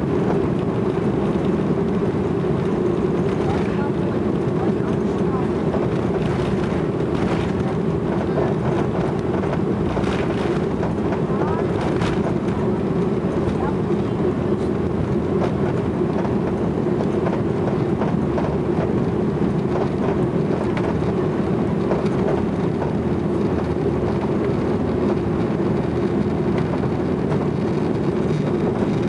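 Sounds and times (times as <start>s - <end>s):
jet engines roaring in cabin: 0.0s - 29.0s
wheels knocking on runway: 0.0s - 29.0s.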